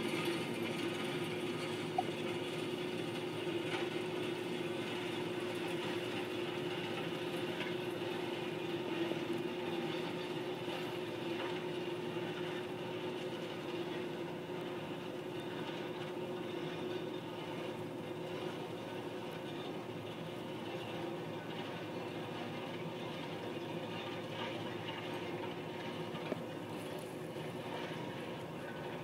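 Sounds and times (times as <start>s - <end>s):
diesel track machine running: 0.0s - 29.0s.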